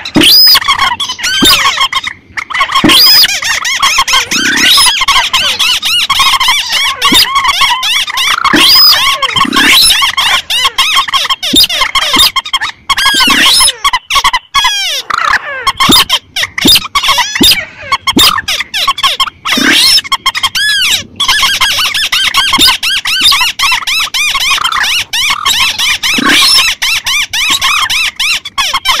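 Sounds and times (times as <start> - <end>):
rail bird calls chorus: 0.0 - 29.0.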